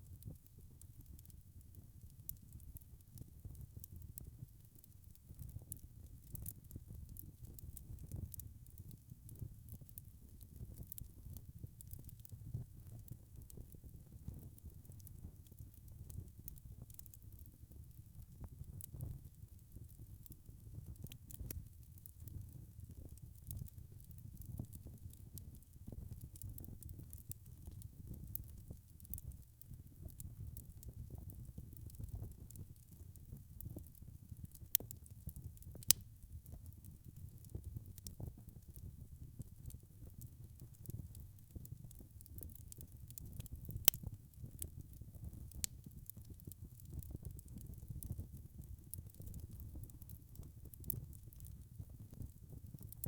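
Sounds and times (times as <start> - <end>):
wood fire crackling: 0.1 - 53.0.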